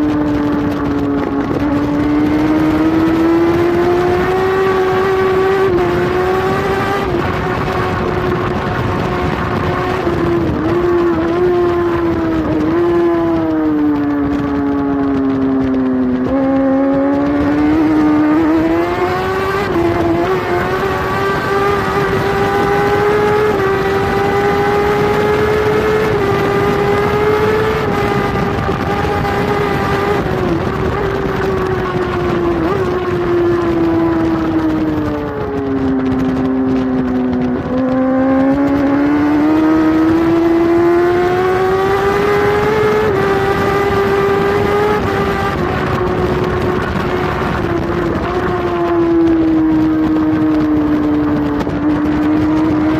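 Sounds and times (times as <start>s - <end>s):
motorcycle engine at high revs: 0.0s - 52.9s
wind rushing: 0.0s - 52.9s.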